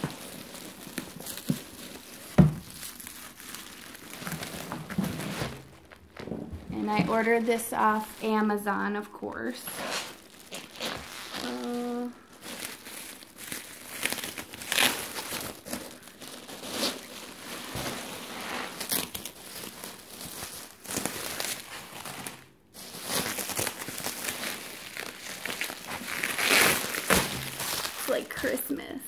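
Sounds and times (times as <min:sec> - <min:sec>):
bubble wrap crinkling: 0:00.0 - 0:29.0.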